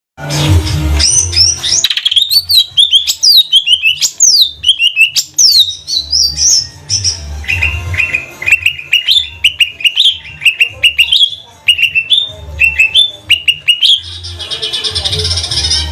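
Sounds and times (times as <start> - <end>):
bird singing whistled notes: 1.0 - 15.9.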